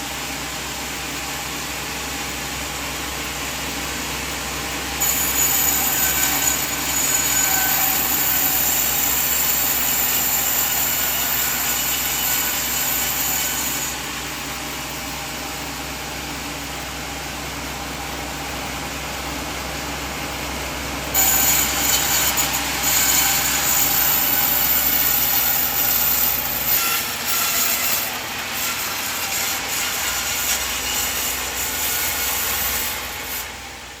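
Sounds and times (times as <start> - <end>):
band saw cutting wood: 0.8 - 18.1, 19.6 - 34.0.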